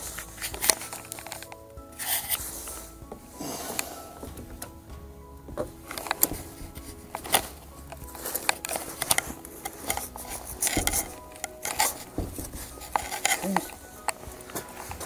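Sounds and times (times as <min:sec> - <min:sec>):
hook-and-loop strap rustling: 0:00.0 - 0:04.8, 0:05.4 - 0:15.0.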